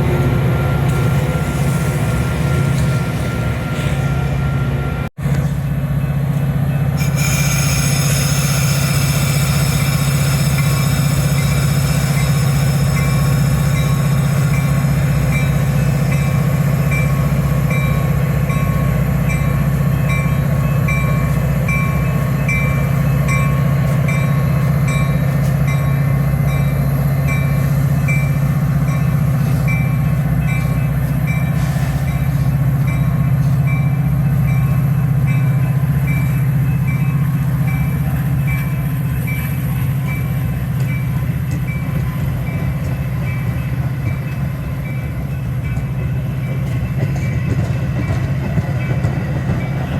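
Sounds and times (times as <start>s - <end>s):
diesel locomotive drone: 0.0s - 49.9s.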